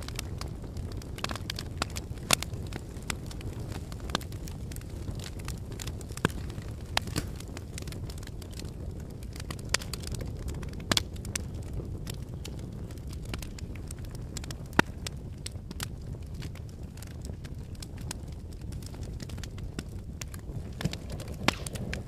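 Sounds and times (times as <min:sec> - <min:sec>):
fire crackling: 0:00.0 - 0:22.0
sharp pops of fire: 0:00.0 - 0:22.0.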